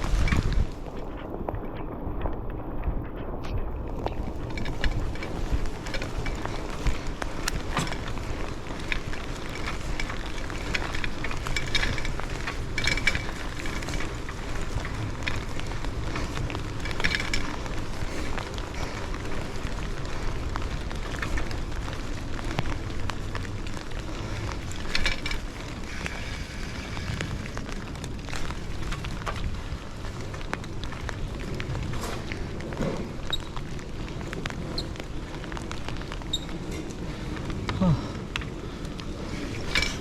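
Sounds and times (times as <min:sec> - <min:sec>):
crackles and rattles: 0:00.0 - 0:40.0
wind rumbling on microphone: 0:00.0 - 0:40.0.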